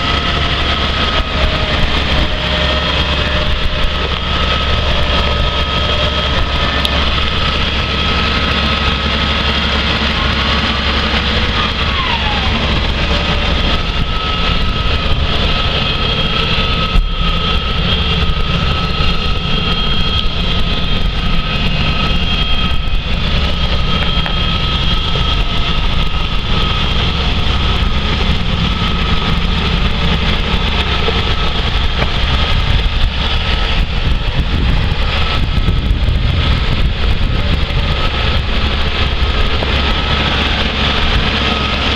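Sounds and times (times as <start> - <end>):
steady high whine: 0.0 - 41.9
tractor diesel engine running: 0.0 - 41.9.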